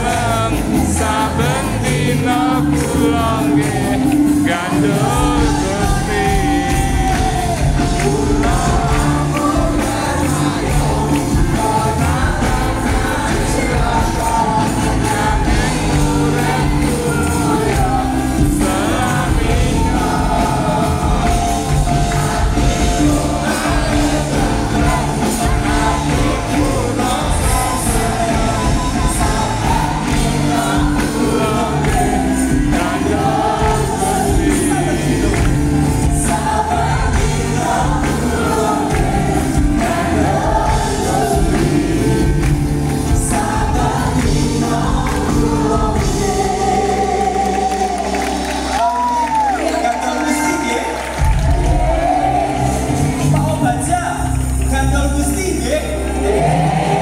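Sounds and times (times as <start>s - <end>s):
choir singing with band: 0.0s - 57.0s.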